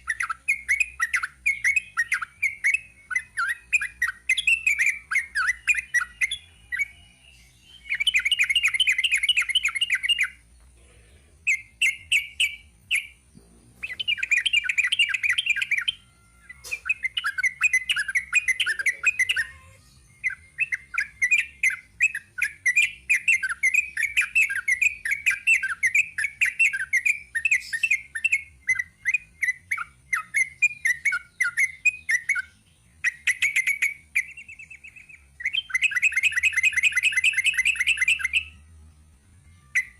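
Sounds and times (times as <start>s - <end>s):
bird singing bubbly whistled notes: 0.0s - 10.4s, 11.5s - 13.2s, 13.8s - 38.6s.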